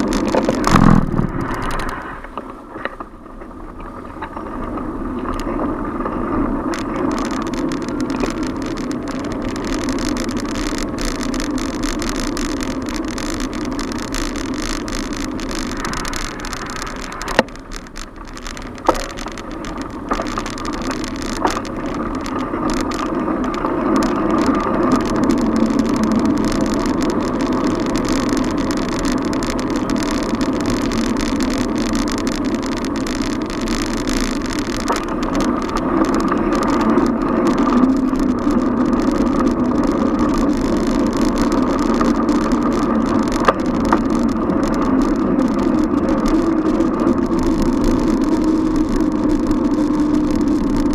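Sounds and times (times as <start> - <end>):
road and traffic noise: 0.0 - 50.9.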